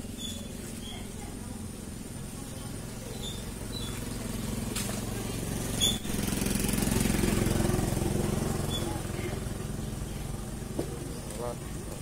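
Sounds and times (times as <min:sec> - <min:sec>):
motor scooter engine passing: 0:00.0 - 0:12.0.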